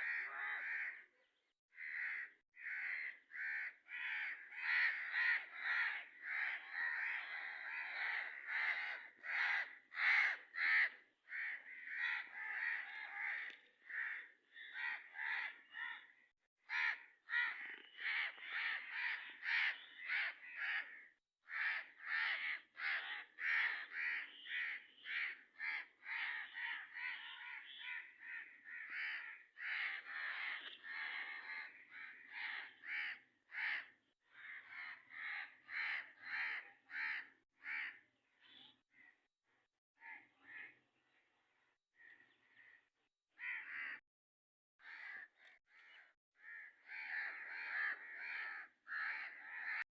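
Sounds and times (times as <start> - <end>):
birds calling harshly: 0.0 - 39.4, 42.0 - 44.0, 44.8 - 49.9.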